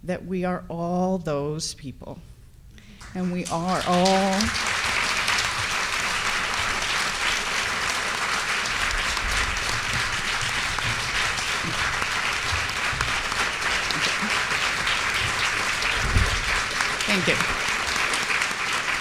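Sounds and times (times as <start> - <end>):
audience applauding: 3.0 - 19.0.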